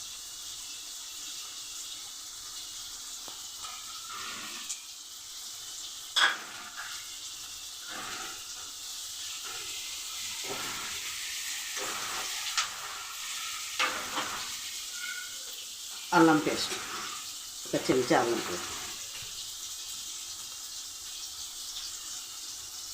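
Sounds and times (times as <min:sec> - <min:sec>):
vegetables sizzling in hot oil: 0:00.0 - 0:22.9.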